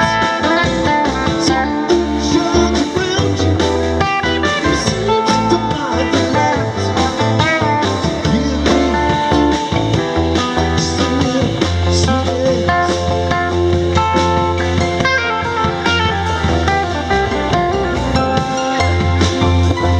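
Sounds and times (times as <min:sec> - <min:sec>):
bending lead guitar notes: 0:00.0 - 0:19.9
live rock band playing: 0:00.0 - 0:19.9.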